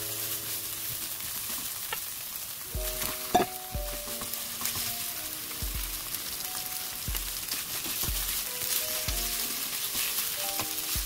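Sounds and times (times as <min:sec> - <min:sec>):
soft background music: 0:00.0 - 0:01.6, 0:02.5 - 0:11.0
beef sizzling in hot oil: 0:00.0 - 0:11.0.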